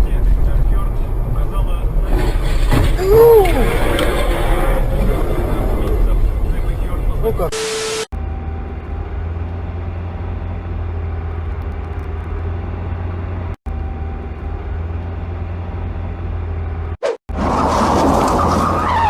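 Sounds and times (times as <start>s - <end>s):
car driving road noise: 0.0s - 7.6s, 8.2s - 19.0s.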